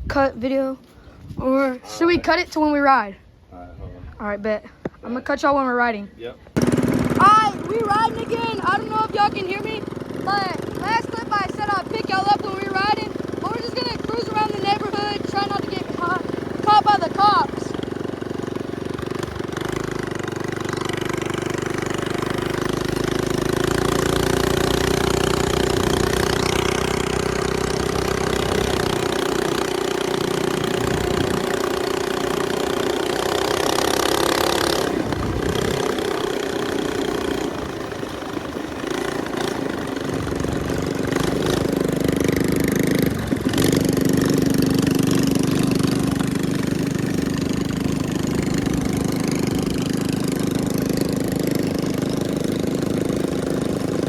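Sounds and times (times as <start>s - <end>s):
small minibike engine running: 6.6s - 54.0s.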